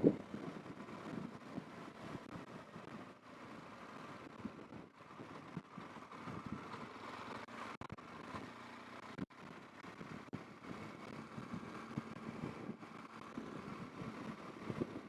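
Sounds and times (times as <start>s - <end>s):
motorcycle engine running: 0.0s - 15.0s
road and traffic noise: 0.0s - 15.0s.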